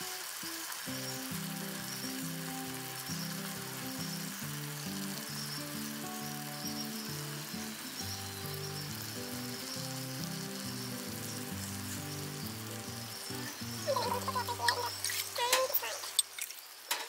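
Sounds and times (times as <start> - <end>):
background music sustained notes: 0.0 - 15.4
food sizzling in hot oil: 0.0 - 16.9.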